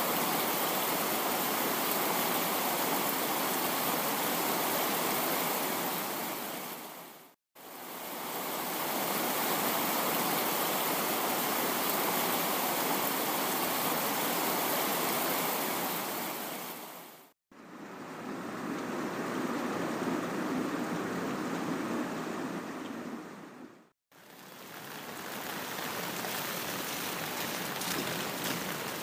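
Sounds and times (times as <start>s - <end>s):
heavy rain rushing: 0.0s - 29.0s.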